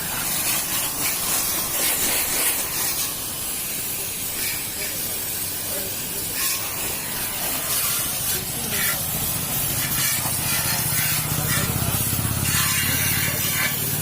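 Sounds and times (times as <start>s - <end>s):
hissing spray from a jet: 0.0s - 14.0s.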